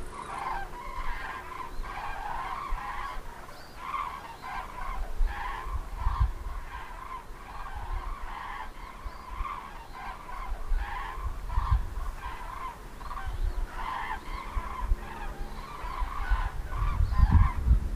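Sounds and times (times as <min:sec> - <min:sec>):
cranes trumpeting calls: 0:00.0 - 0:17.6.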